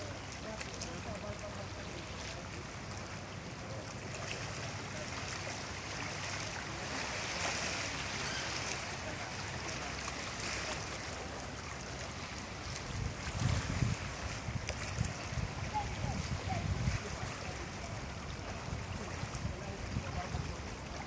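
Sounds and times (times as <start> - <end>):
small waves lapping: 0.0 - 21.0.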